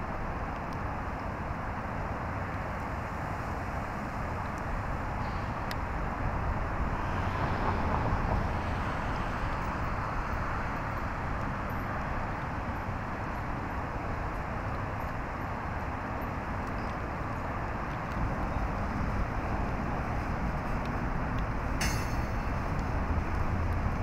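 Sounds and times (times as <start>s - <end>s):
road traffic hum: 0.0s - 24.0s.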